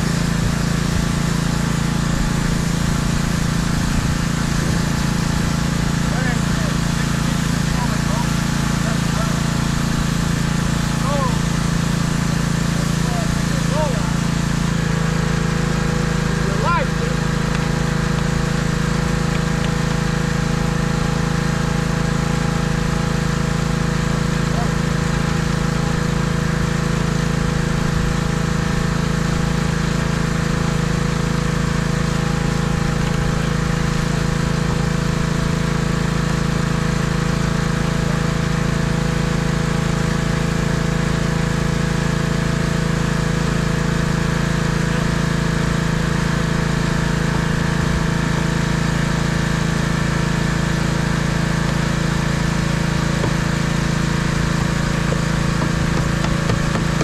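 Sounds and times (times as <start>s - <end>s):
pressure washer engine running: 0.0s - 57.0s.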